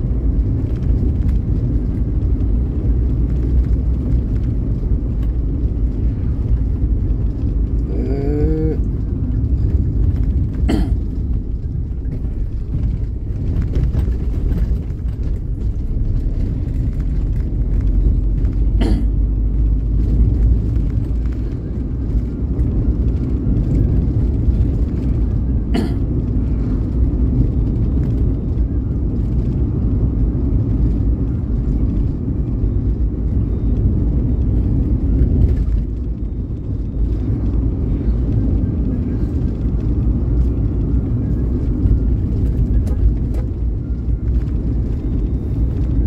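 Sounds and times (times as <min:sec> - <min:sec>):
vehicle road rumble: 0:00.0 - 0:46.0.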